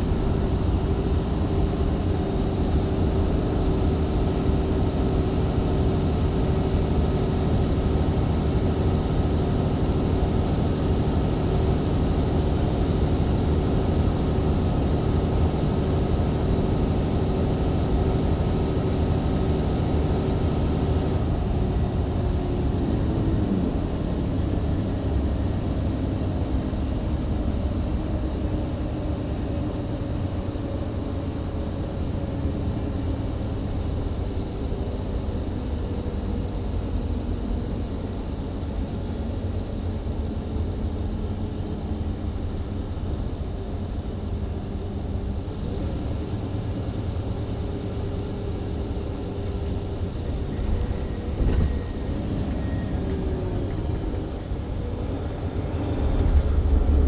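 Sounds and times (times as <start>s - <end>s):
road noise: 0.0s - 35.5s, 40.9s - 57.0s
bus diesel engine: 0.0s - 57.0s.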